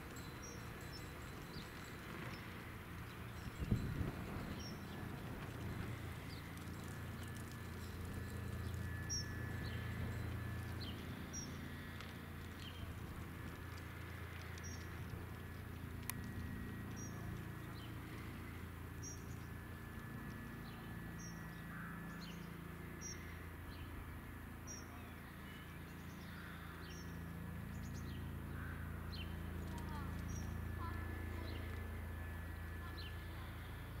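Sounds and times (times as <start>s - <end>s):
distant helicopter drone: 0.0s - 34.0s
birds chirping: 0.1s - 34.0s.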